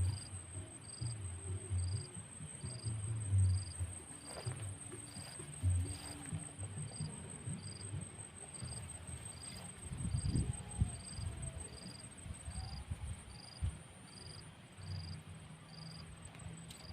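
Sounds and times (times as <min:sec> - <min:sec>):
wind rumbling on microphone: 0:00.0 - 0:14.0
crickets chirping: 0:00.0 - 0:16.9
high insect whine: 0:00.0 - 0:16.9.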